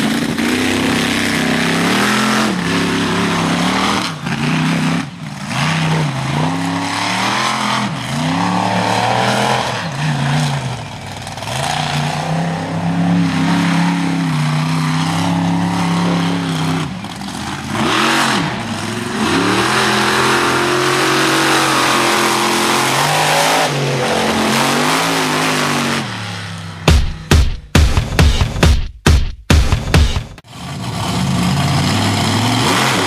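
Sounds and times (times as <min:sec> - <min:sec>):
monster truck engine revving: 0:00.0 - 0:27.4, 0:30.0 - 0:33.0.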